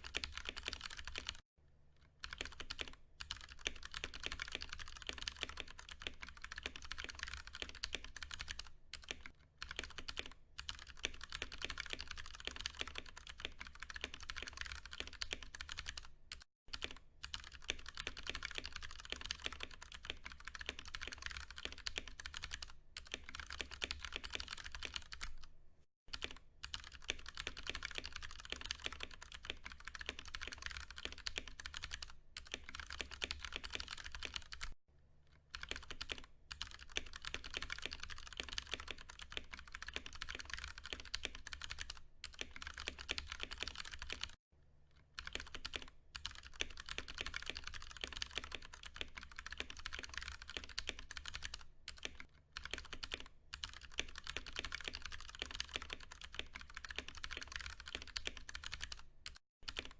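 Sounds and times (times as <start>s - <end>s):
fast mechanical keyboard typing: 0.0s - 1.4s, 2.2s - 25.5s, 26.1s - 34.8s, 35.5s - 44.4s, 45.2s - 59.9s.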